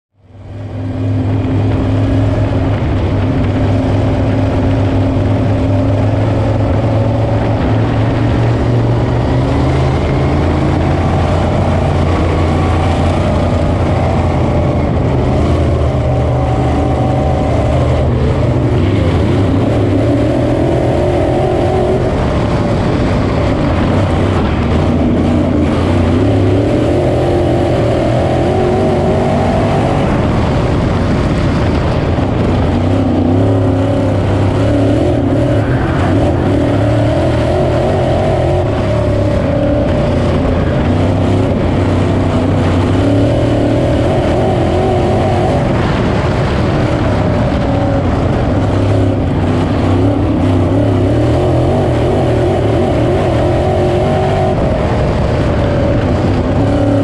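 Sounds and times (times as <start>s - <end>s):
race car engine running: 0.1s - 57.0s.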